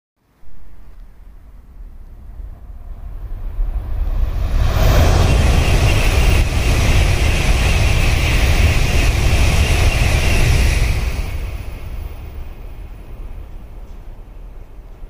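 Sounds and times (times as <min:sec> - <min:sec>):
train passing at speed: 0:00.2 - 0:15.0.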